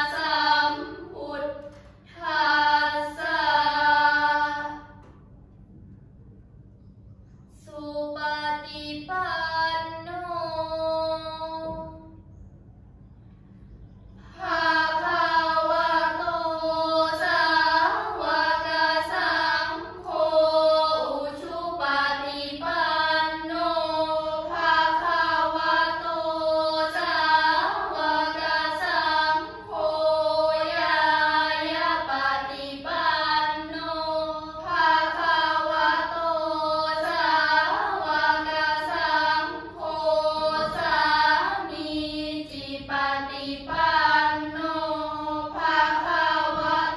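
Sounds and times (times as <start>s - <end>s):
girls chanting prayers in unison: 0.0s - 5.8s, 7.2s - 12.4s, 13.1s - 46.9s.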